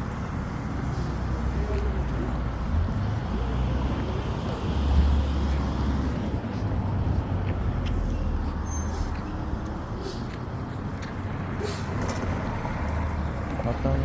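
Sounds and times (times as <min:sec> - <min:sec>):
heavy truck engine rumble: 0:00.0 - 0:14.0.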